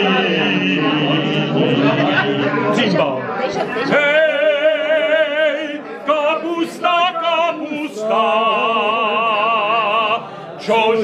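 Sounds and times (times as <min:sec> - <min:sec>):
man singing unaccompanied: 0:00.0 - 0:03.2, 0:03.8 - 0:11.0.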